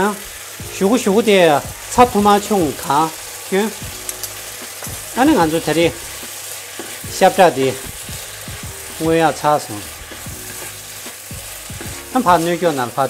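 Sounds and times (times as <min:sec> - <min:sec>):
food sizzling in a frying pan: 0:00.0 - 0:13.0
wooden spatula stirring: 0:02.3 - 0:13.0.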